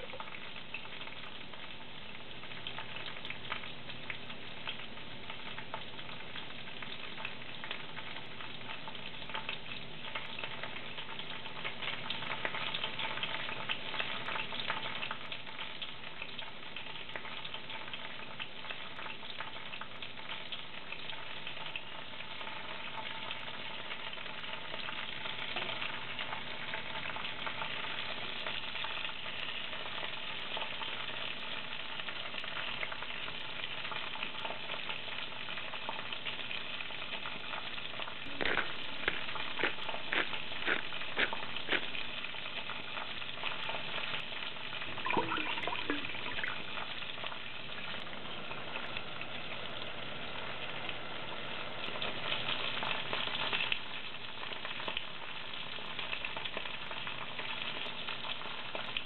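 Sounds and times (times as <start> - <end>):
meat sizzling in a pan: 0.0 - 45.0, 45.9 - 59.0.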